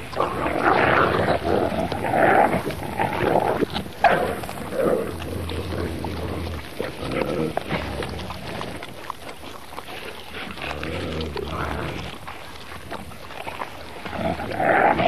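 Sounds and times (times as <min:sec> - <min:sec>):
wolves snarling and growling: 0:00.0 - 0:15.0.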